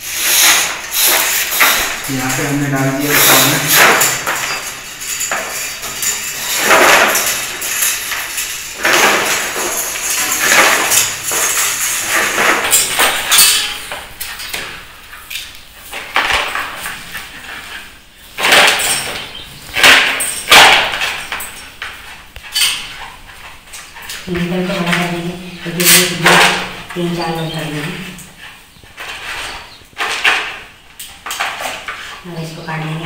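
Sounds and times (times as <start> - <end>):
wires scraping through conduit: 0.0 - 33.0.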